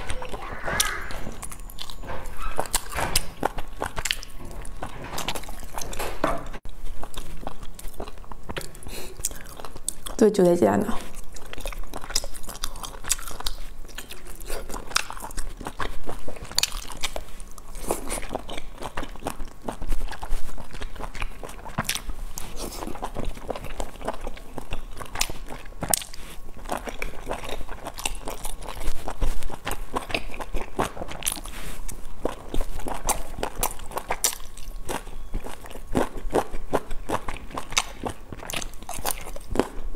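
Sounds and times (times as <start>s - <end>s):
person chewing: 0.0s - 10.3s, 10.9s - 39.9s.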